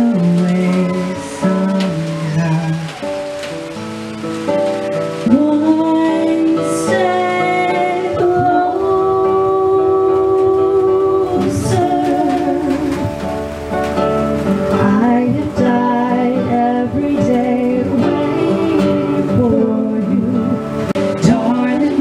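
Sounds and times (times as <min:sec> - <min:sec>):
woman singing into microphone: 0:00.0 - 0:03.5, 0:04.9 - 0:13.8, 0:14.6 - 0:22.0
acoustic guitar: 0:00.0 - 0:22.0.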